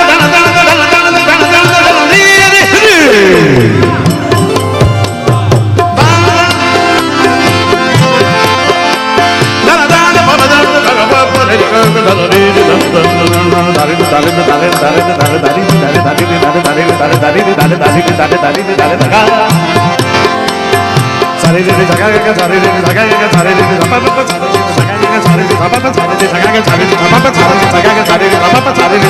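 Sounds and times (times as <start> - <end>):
tabla playing a steady rhythm: 0.0 - 29.0
sustained melodic instruments: 3.4 - 29.0.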